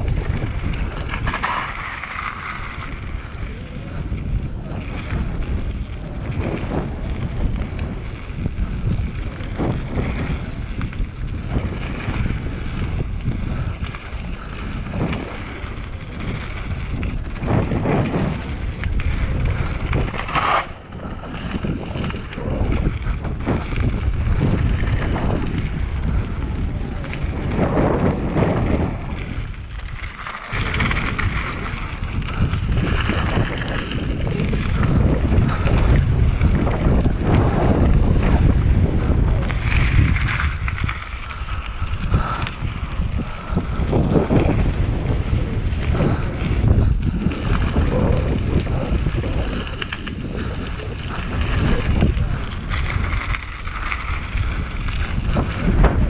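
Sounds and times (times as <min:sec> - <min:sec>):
bike rattling and knocking: 0:00.0 - 0:56.0
bike tyres rolling on gravel: 0:00.0 - 0:56.0
wind buffeting microphone: 0:00.0 - 0:56.0.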